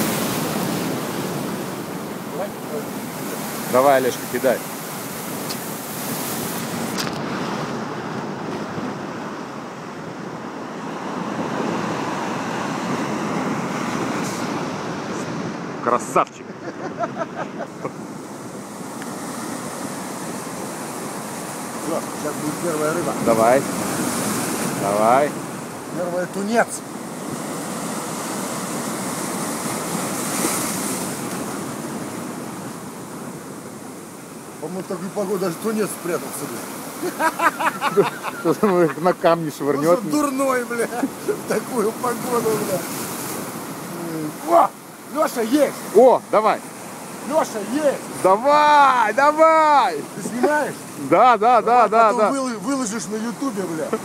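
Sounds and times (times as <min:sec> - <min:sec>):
surf washing over rocks: 0:00.0 - 0:54.0.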